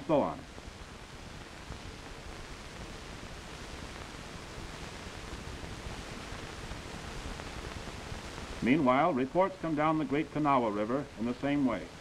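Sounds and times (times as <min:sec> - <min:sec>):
old film soundtrack hiss and rumble: 0:00.0 - 0:12.0.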